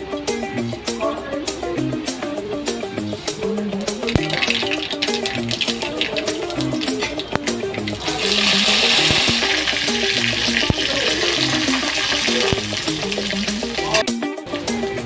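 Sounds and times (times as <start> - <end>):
background music: 0.0 - 15.0
food sizzling in a pan: 2.0 - 15.0.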